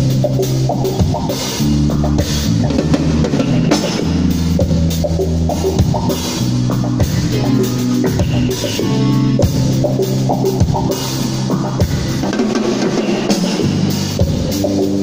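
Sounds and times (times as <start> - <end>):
bass drum: 0.0 - 12.5
electric bass guitar notes: 0.0 - 15.0.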